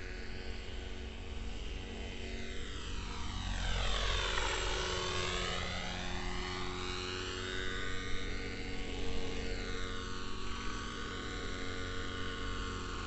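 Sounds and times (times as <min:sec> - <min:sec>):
model helicopter engine and rotor: 0:00.0 - 0:13.0.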